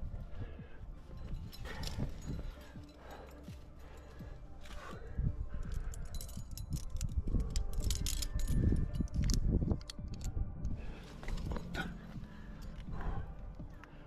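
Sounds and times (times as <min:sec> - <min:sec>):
climbing gear jangling: 0:01.0 - 0:14.0.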